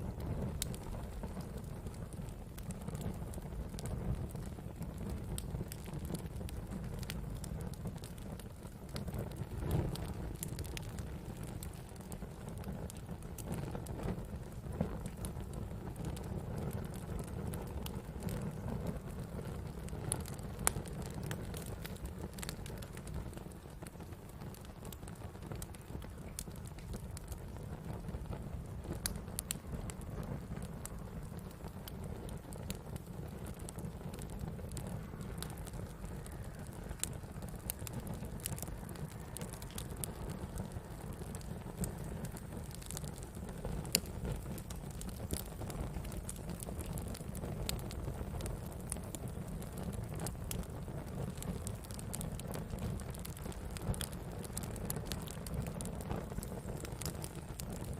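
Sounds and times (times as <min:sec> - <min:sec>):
campfire flames rumbling: 0:00.0 - 0:57.9
fire crackles and pops: 0:00.0 - 0:57.9.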